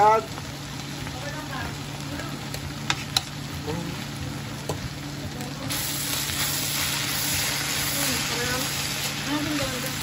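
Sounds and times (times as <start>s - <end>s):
bamboo shoots sizzling in pan: 0.0s - 10.0s.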